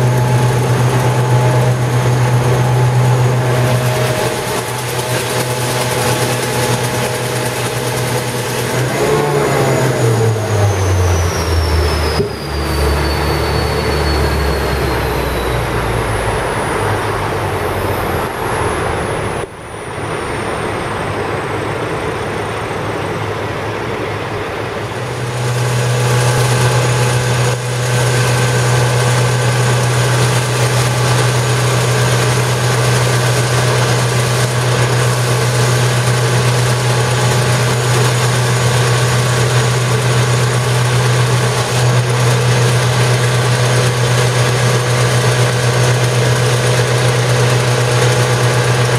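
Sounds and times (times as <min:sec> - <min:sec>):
high whines falling in pitch: 0:00.0 - 0:48.9
truck engine and pump drone: 0:00.0 - 0:48.9.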